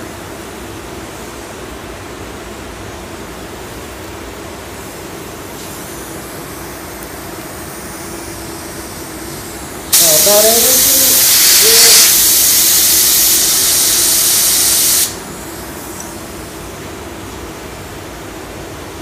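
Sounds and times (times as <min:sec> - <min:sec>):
ventilation hum: 0:00.0 - 0:19.0.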